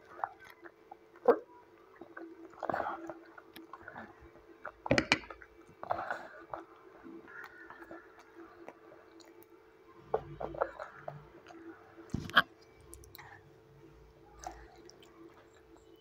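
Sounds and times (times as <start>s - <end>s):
child chewing noodles: 0.0s - 16.0s.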